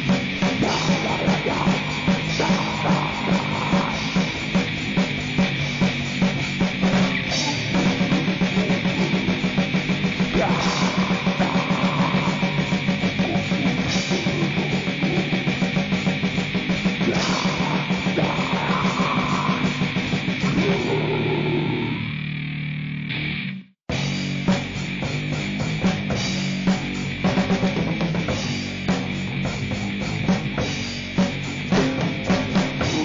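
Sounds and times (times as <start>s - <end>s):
fast drum beat: 0.0s - 21.2s, 23.9s - 33.0s
distorted guitar and bass: 0.0s - 33.0s.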